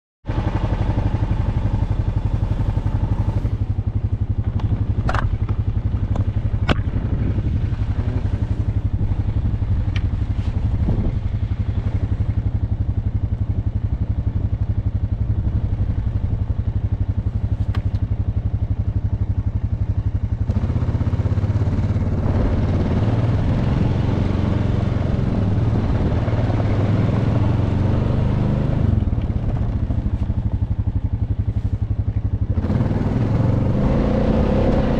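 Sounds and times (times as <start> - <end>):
atv engine running: 0.3 - 34.9.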